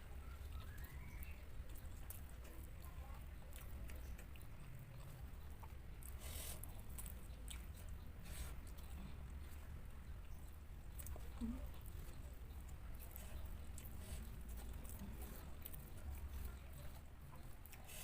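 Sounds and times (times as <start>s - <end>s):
low steady hum: 0.0s - 18.0s
person chewing food: 0.0s - 18.0s.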